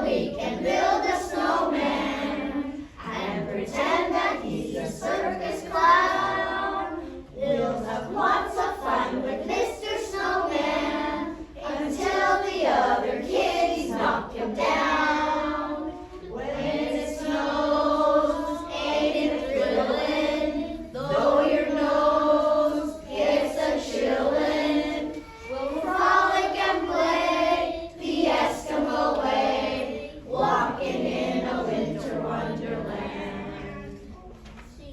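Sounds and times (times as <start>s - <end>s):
children singing: 0.0s - 34.5s.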